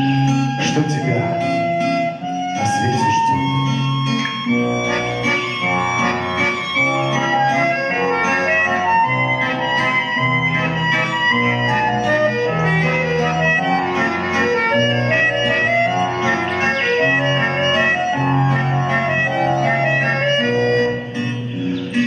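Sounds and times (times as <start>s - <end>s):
organ-like keyboard: 0.0s - 22.0s.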